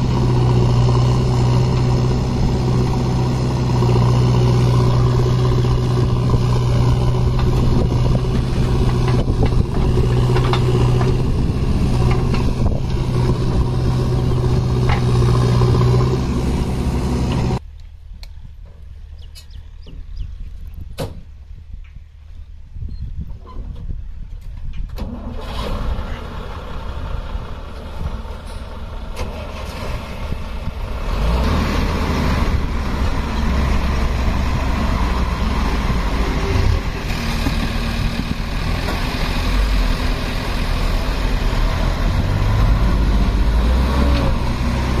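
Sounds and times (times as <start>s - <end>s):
diesel truck engine running: 0.0s - 17.6s, 25.1s - 45.0s.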